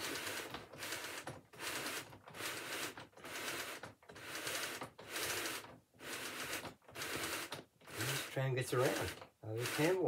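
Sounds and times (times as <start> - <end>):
blind scraping over rollers: 0.0 - 10.0.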